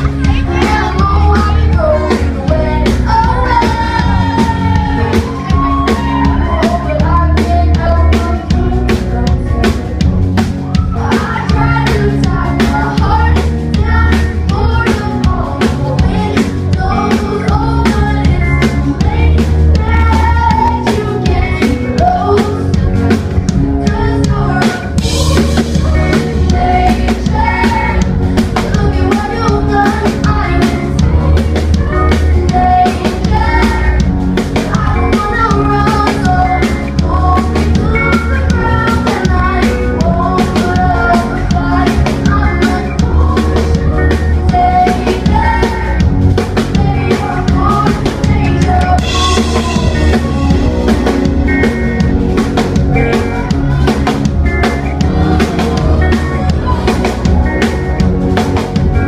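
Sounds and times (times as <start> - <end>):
woman singing: 0.0 - 52.1, 52.8 - 57.6
drum kit beat: 0.0 - 59.0
live pop band playing: 0.0 - 59.0.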